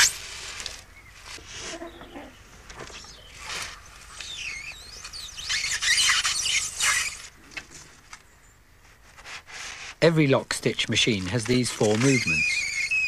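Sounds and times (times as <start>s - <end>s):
polystyrene squeaking and scraping: 0.0s - 7.4s, 8.8s - 13.0s.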